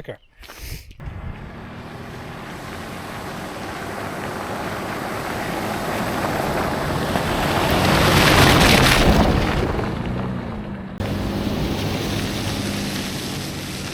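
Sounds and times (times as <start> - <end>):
vehicle driving on gravel: 1.0 - 13.9.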